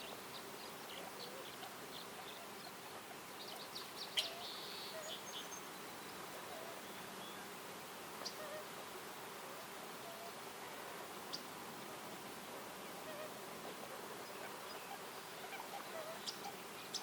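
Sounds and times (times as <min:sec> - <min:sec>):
small birds chirping: 0:00.0 - 0:11.7, 0:12.4 - 0:17.0
steady background hiss: 0:00.0 - 0:17.0.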